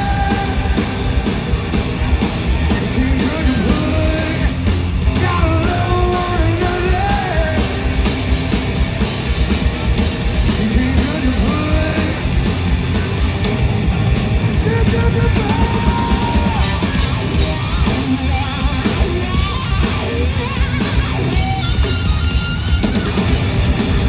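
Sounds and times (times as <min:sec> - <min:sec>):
bass guitar: 0:00.0 - 0:24.0
distorted electric guitars: 0:00.0 - 0:24.0
drums: 0:00.0 - 0:24.0.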